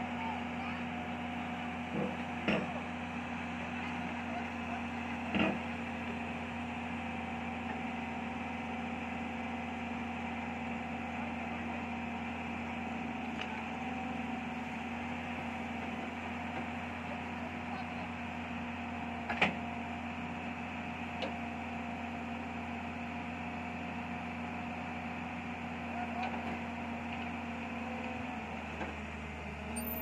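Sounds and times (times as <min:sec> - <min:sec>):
heavy diesel machinery running: 0:00.0 - 0:30.0.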